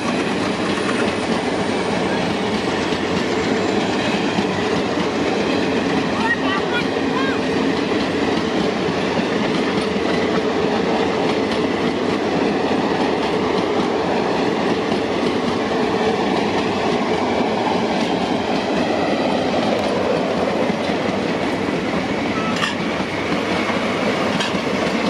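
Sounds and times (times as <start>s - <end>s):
train wheels rumbling on rail: 0.0s - 25.0s
wheels clacking over rail joints: 0.0s - 25.0s.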